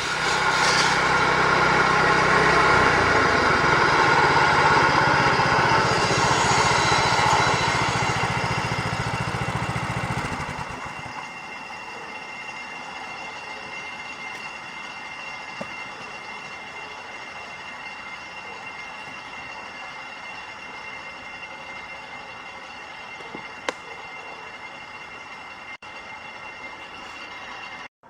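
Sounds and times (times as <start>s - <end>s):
sawmill engine running: 0.0s - 27.9s.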